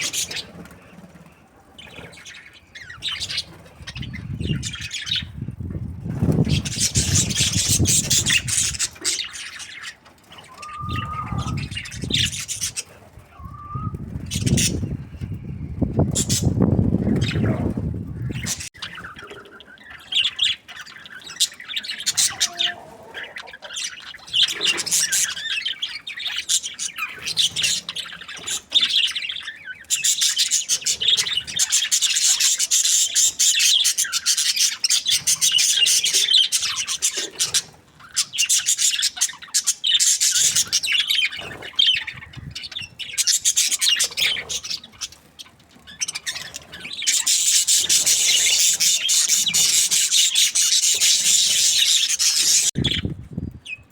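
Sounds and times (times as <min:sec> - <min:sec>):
budgerigars chirping and chattering: 0:00.0 - 0:53.9.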